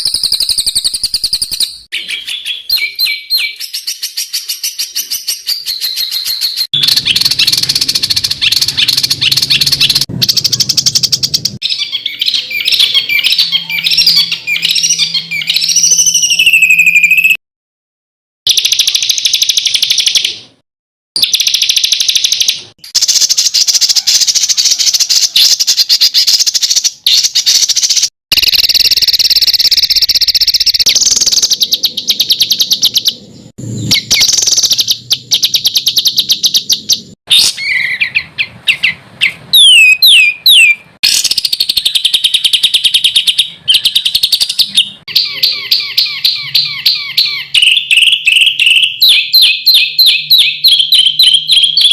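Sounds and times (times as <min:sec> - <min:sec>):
songbirds singing harsh trills: 0:00.0 - 0:17.4, 0:21.2 - 0:51.9.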